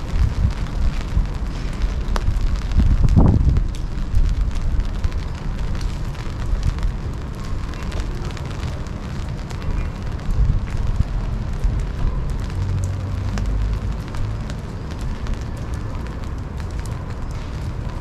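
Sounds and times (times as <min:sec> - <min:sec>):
low rumble: 0:00.0 - 0:15.9
rain drops ticking: 0:00.0 - 0:18.0.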